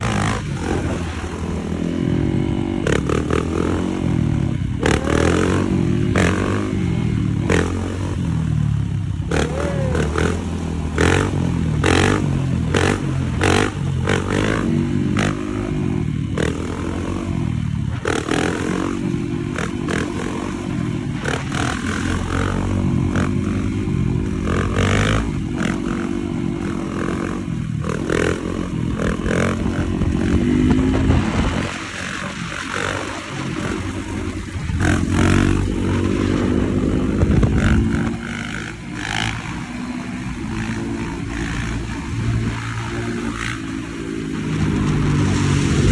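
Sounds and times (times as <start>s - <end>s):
dirt bike engines revving: 0.0s - 45.9s.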